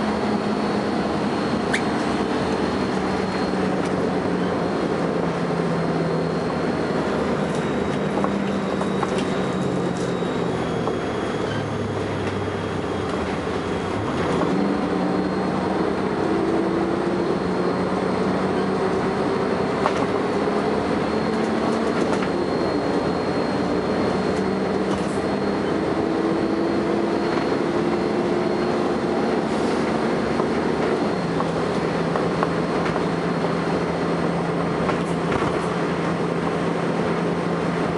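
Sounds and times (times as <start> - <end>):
bus diesel engine accelerating: 0.0 - 37.9.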